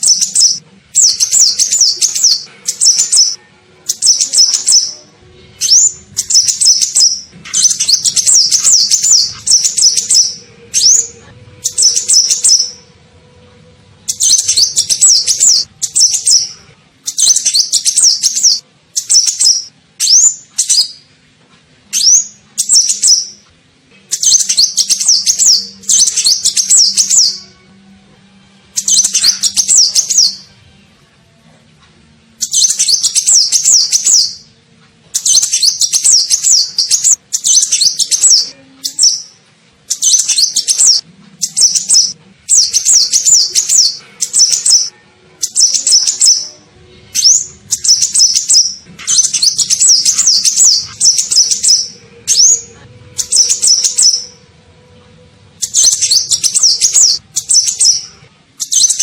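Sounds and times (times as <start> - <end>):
bird twittering chirps: 0.0 - 5.0, 5.6 - 12.8, 14.1 - 16.5, 17.1 - 21.0, 22.0 - 23.4, 24.2 - 27.4, 28.8 - 30.4, 32.4 - 34.5, 35.2 - 46.4, 47.2 - 54.4, 55.6 - 58.0.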